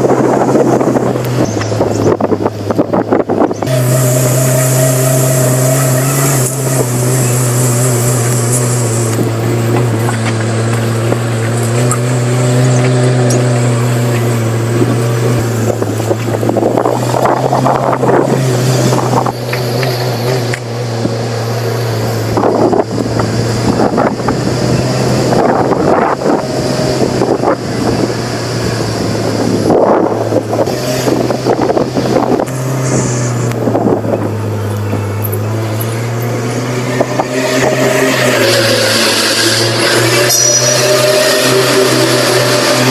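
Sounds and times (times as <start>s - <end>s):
pickup engine running: 0.0s - 42.9s.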